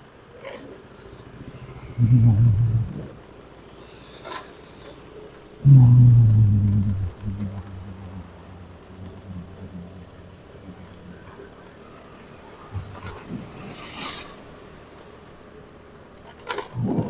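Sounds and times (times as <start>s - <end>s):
faint vehicle and road noise: 0.0s - 17.0s.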